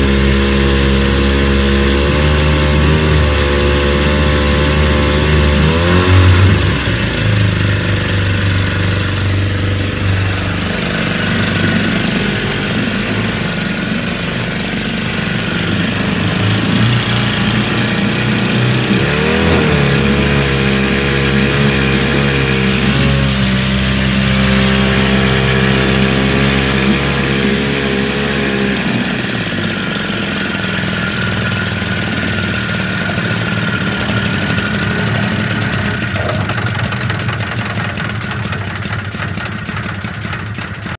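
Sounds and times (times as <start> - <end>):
jet churning water: 0.0 - 40.9
outboard engine running: 0.0 - 40.9.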